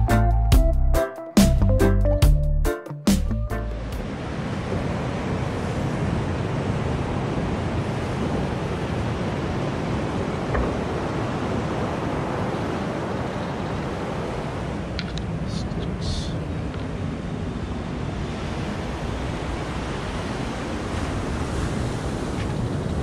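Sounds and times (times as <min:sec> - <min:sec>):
ocean surf breaking: 0:03.8 - 0:23.0
wind on microphone: 0:03.9 - 0:23.0.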